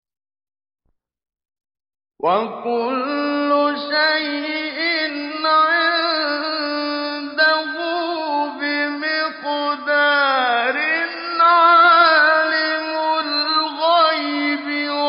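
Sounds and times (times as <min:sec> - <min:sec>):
man chanting recitation: 0:02.2 - 0:15.0.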